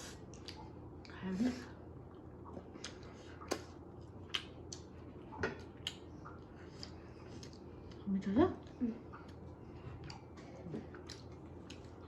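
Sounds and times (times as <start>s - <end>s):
faint steady hum: 0.0s - 12.0s
food crunching: 2.2s - 12.0s.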